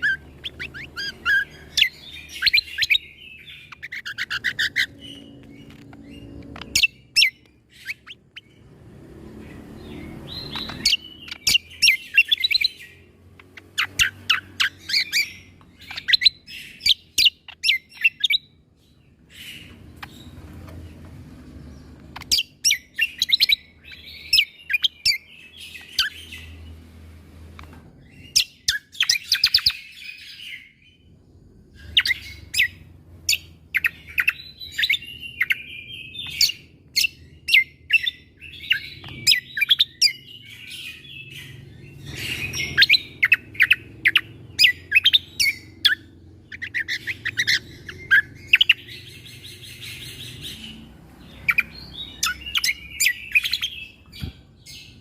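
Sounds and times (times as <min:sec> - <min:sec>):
songbird singing staccato notes: 0:00.0 - 0:55.0.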